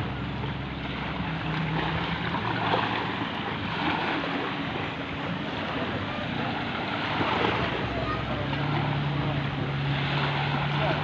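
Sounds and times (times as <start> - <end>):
small waves lapping: 0.0 - 11.0.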